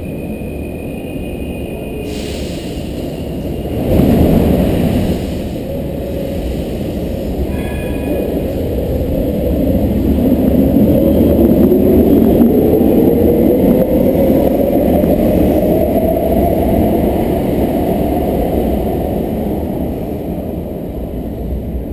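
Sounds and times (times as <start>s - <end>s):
train rumble: 0.0s - 21.9s.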